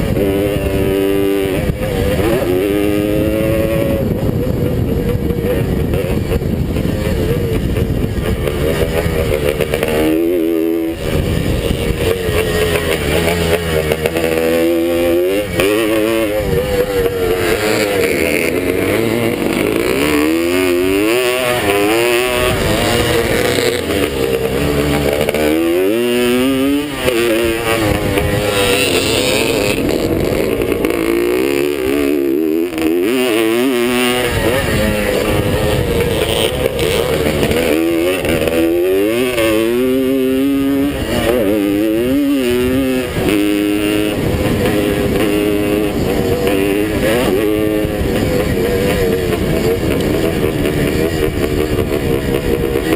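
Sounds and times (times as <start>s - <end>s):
motorcycle engine revving: 0.0s - 52.9s
track noise: 0.0s - 52.9s
wind: 0.0s - 52.9s.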